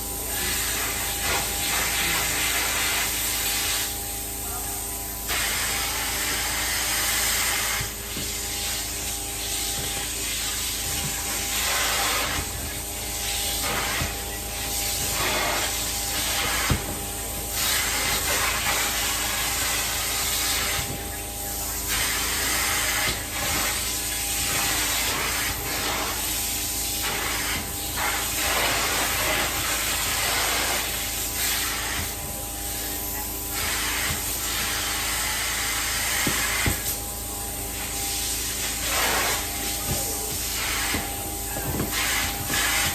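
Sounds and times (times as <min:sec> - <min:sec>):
cleaning wand spraying and sucking: 0:00.0 - 0:42.9.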